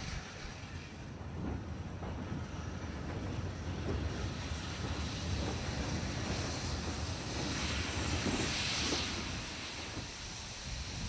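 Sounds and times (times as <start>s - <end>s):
hiss: 0.0s - 11.0s
steam train rumbling: 0.0s - 11.0s
wind buffeting microphone: 0.0s - 11.0s.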